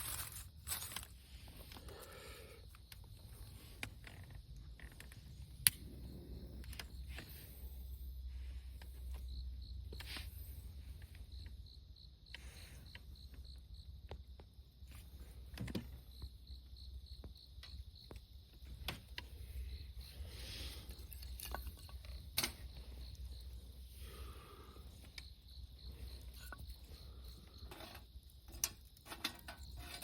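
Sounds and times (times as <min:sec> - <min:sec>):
insect chirping: 0:00.0 - 0:30.0.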